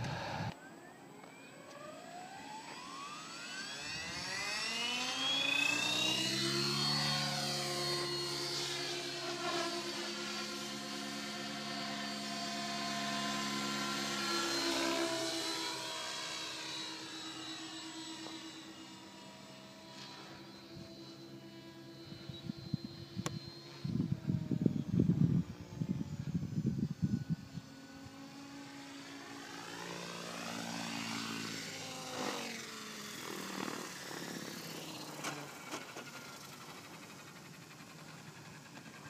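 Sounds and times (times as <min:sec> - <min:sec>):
rc helicopter motor and rotor whine: 0:00.0 - 0:39.0.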